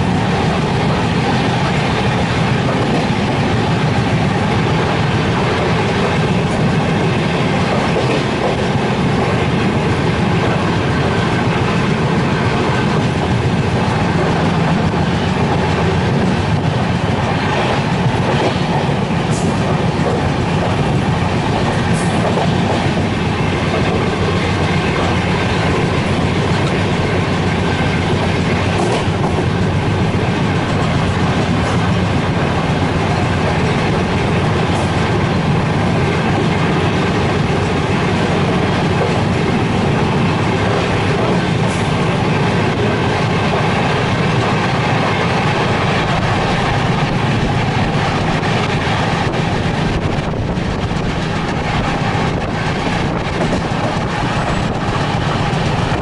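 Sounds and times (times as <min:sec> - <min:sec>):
train rumbling and rattling: 0:00.0 - 0:56.0.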